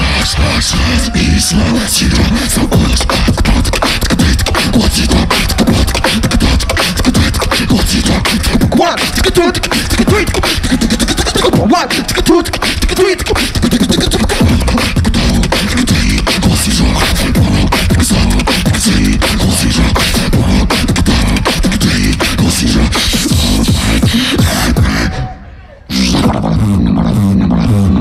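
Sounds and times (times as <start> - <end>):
beatboxing into microphone: 0.0 - 28.0
deep bass: 0.0 - 28.0.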